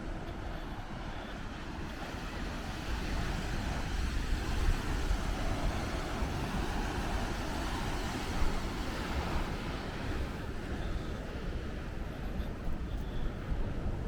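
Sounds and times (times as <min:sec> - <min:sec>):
ocean surf on a beach: 0:00.2 - 0:14.0.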